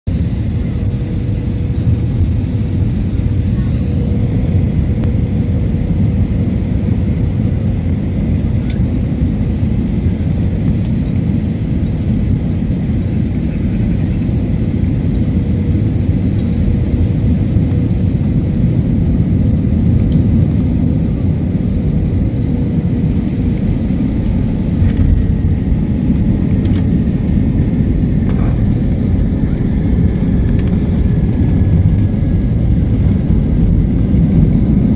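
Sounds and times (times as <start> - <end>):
aircraft cabin engine rumble: 0.1 - 34.9.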